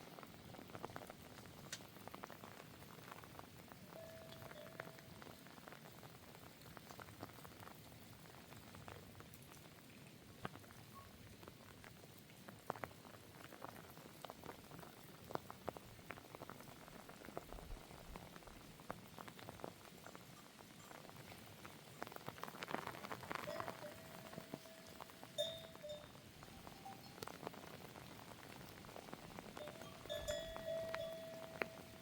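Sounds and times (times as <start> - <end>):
rain hissing: 0.0 - 32.0
raindrops ticking: 0.0 - 32.0.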